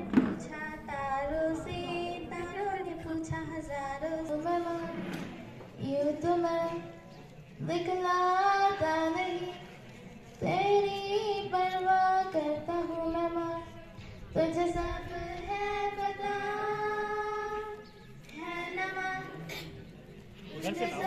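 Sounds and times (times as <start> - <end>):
girls singing together: 0.0 - 19.8.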